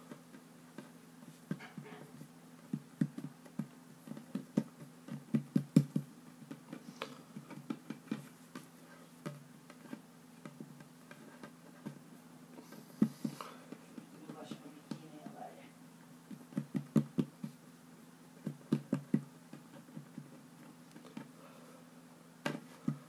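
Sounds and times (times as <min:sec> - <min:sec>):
fingers patting dough on wood: 0:00.0 - 0:15.5, 0:16.1 - 0:17.6, 0:18.3 - 0:21.6, 0:22.4 - 0:23.0
faint steady hum: 0:00.0 - 0:23.0.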